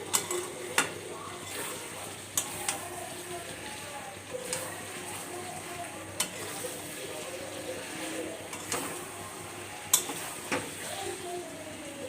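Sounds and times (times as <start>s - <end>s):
curry sizzling in a pan: 0.0s - 12.0s.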